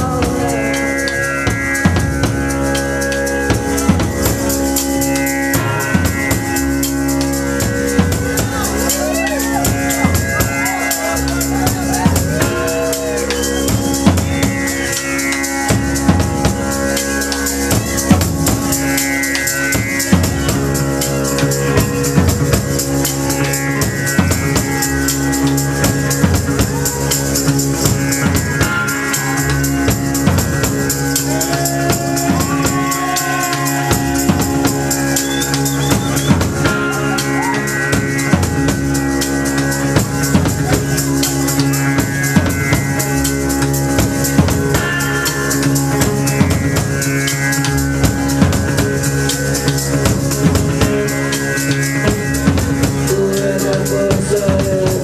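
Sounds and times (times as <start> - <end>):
drum kit beat: 0.0 - 55.0
sustained electric guitar: 0.0 - 55.0.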